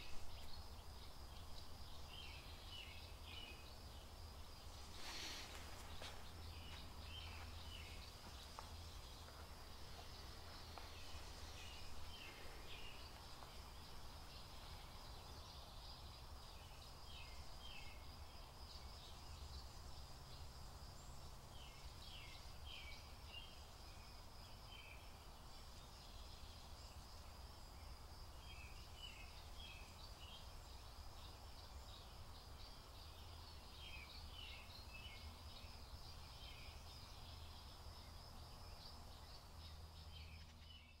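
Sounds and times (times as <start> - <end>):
bird chirping: 0.0 - 41.0
insect trill: 0.0 - 41.0.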